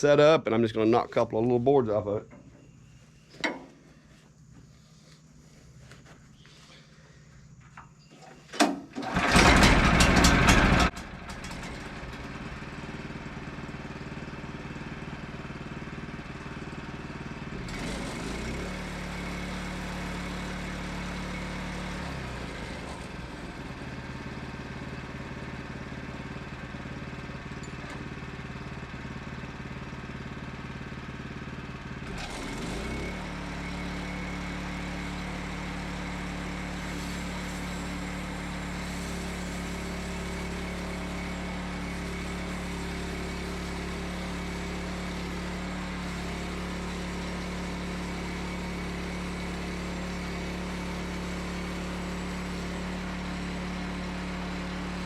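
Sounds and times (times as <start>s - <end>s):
sawmill engine running: 9.0s - 55.0s.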